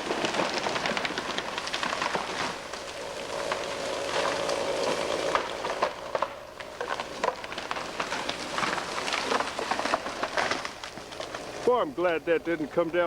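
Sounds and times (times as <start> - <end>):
debris pattering and crackling: 0.0 - 13.0.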